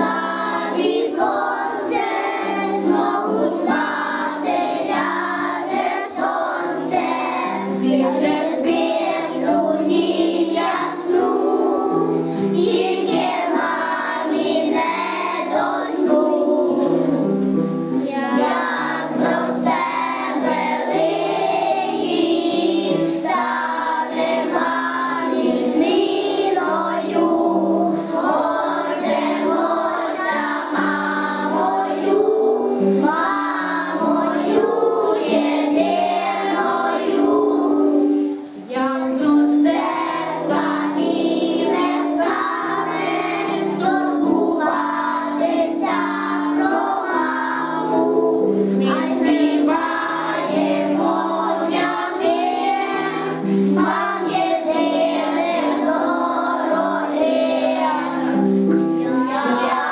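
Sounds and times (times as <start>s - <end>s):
children singing in unison: 0.0s - 59.9s
musical accompaniment: 0.0s - 59.9s.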